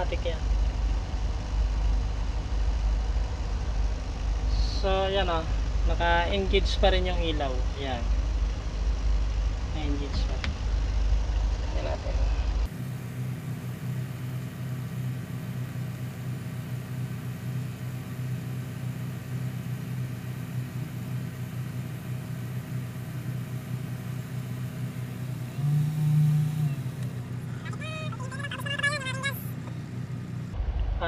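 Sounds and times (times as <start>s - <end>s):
car engine idling: 0.0s - 31.0s
loud steady hum: 0.0s - 31.0s.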